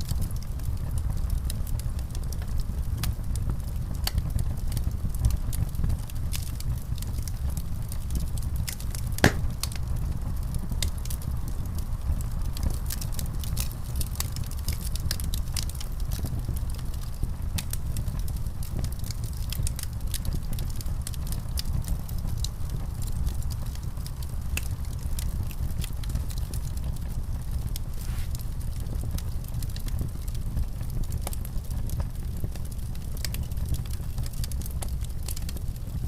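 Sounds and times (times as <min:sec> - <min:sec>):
low rumble of flames: 0:00.0 - 0:36.0
wood fire crackling: 0:00.0 - 0:36.0.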